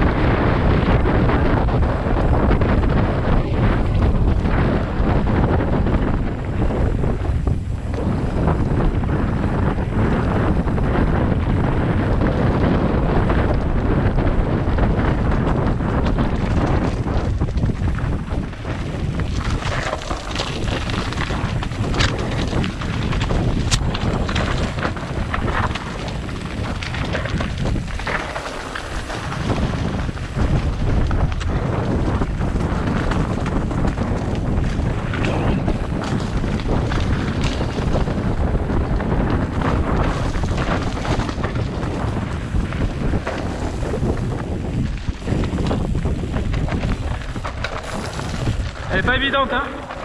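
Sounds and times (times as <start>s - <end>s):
mountain bike rattling on rough trail: 0.0s - 50.0s
wind buffeting microphone: 0.0s - 50.0s.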